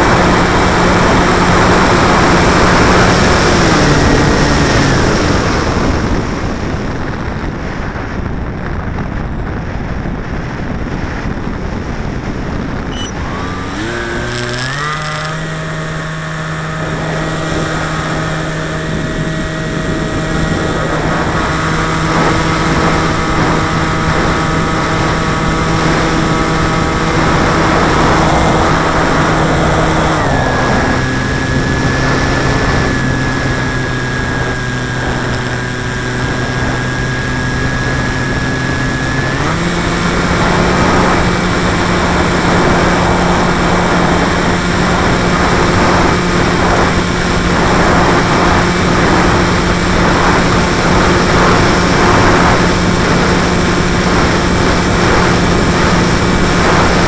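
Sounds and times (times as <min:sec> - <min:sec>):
electric motor and propeller whining: 0:00.0 - 0:57.0
rushing air: 0:00.0 - 0:57.0.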